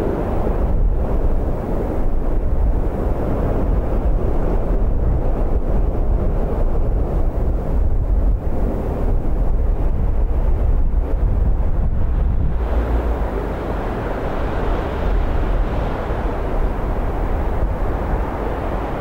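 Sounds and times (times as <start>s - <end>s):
air buffeting microphone: 0.0s - 19.0s.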